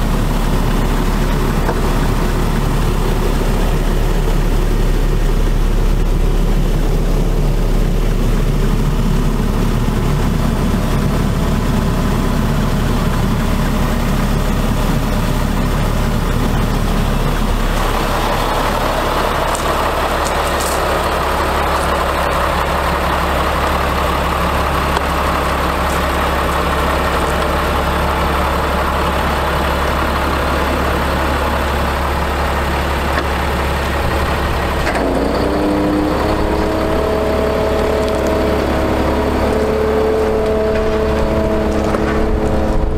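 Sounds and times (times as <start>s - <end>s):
diesel truck engine idling: 0.0s - 42.9s.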